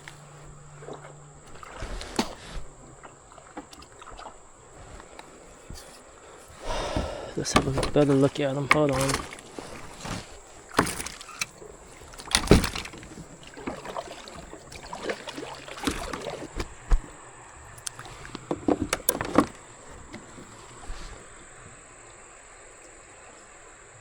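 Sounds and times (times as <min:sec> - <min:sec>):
knocks and clatters in kayak: 0:00.0 - 0:21.9.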